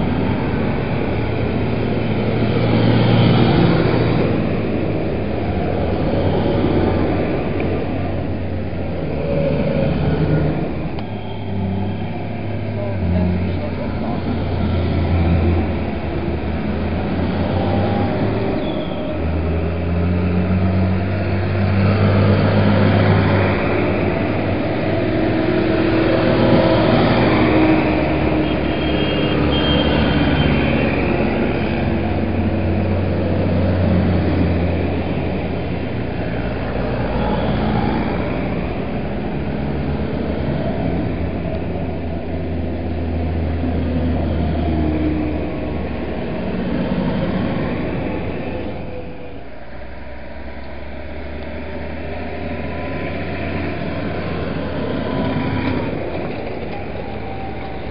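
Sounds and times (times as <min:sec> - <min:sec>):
tractor diesel engines passing: 0:00.0 - 0:57.9.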